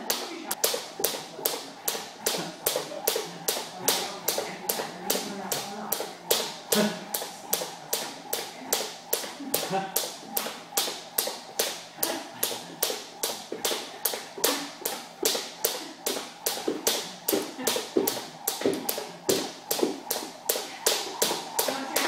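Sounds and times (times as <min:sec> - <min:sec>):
steady sharp claps or taps: 0:00.0 - 0:22.0.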